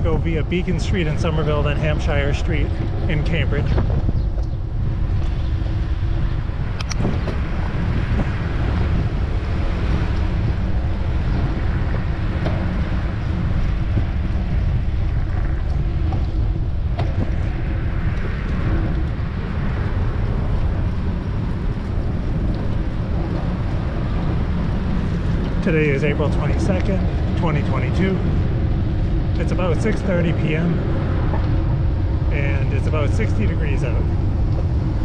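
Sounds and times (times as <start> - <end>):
street traffic: 0.0 - 35.0
wind rushing over microphone: 0.0 - 35.0.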